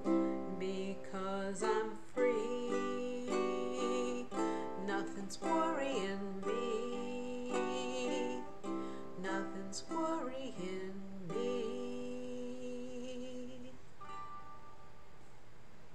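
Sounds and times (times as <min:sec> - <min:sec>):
woman singing: 0:00.0 - 0:13.8
ukulele strumming: 0:00.0 - 0:15.2.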